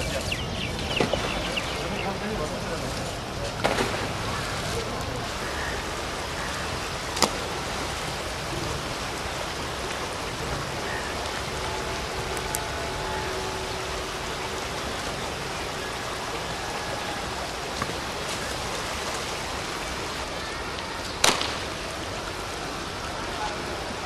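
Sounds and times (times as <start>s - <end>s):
rain falling: 0.0s - 24.0s
shallow river flowing: 0.0s - 24.0s.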